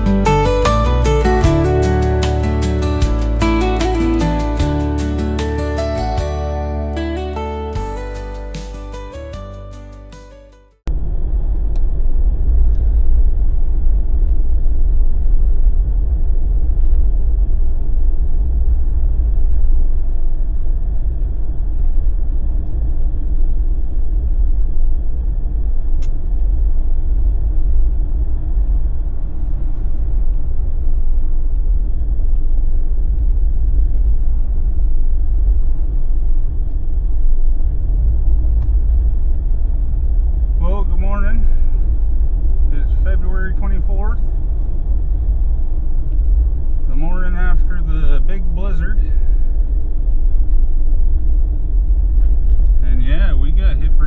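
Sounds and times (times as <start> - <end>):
car engine and tyres rumbling: 0.0 - 9.6, 10.8 - 54.0.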